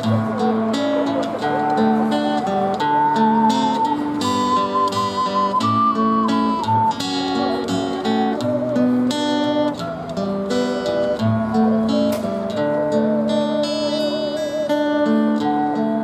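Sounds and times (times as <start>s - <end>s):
acoustic guitar chords: 0.0s - 16.0s
ocarina melody: 0.0s - 16.0s.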